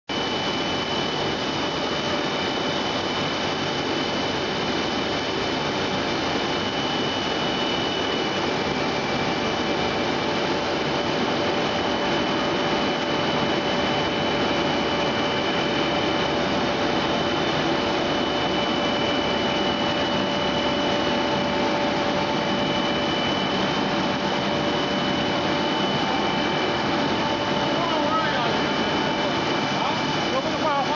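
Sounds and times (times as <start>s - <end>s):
high machine whine: 0.1s - 30.9s
machine hiss and hum: 0.1s - 30.9s.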